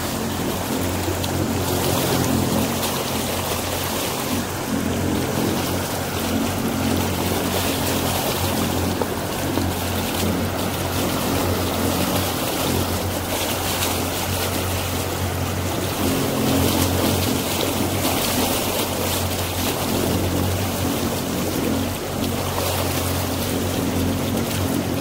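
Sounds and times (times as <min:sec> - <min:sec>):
motorboat engine droning: 0:00.0 - 0:25.0
water rushing past hull: 0:00.0 - 0:25.0.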